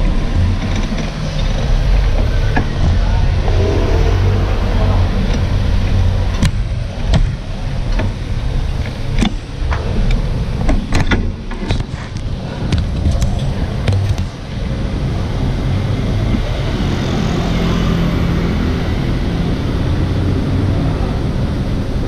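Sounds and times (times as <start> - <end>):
scooters passing: 0.0 - 10.6, 14.4 - 22.0
street traffic rumble: 0.0 - 22.0.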